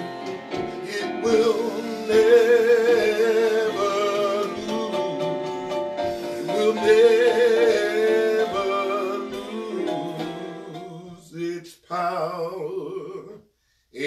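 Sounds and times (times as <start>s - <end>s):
soft instrumental backing: 0.0s - 11.4s
man singing a slow hymn: 0.0s - 14.0s.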